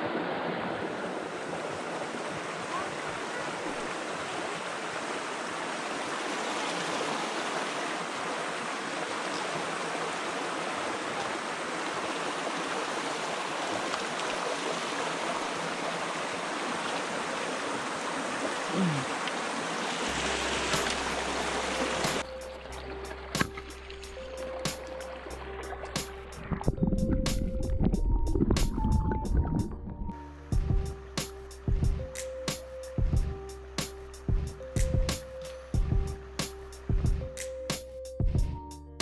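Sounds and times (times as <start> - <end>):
creek water flowing over stones: 0.0 - 37.4.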